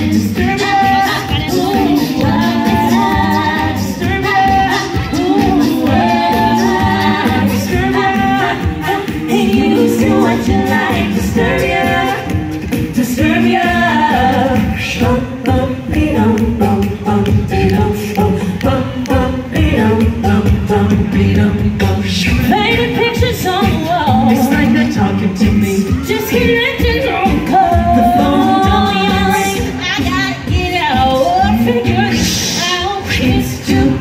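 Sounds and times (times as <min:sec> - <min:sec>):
vocal group singing in harmony: 0:00.0 - 0:34.0.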